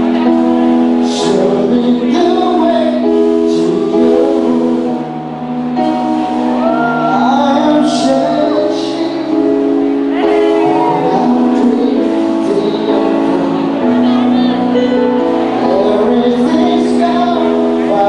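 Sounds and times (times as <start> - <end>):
live rock band playing chords: 0.0 - 18.0
person singing: 0.0 - 18.0.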